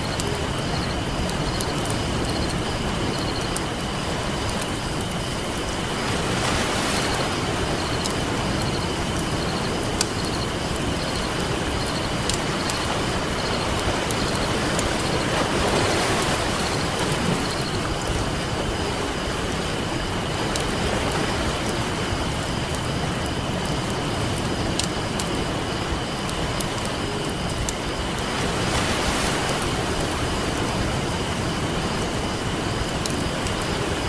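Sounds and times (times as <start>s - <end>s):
campfire crackling: 0.0s - 34.0s
ocean surf rushing: 0.0s - 34.0s.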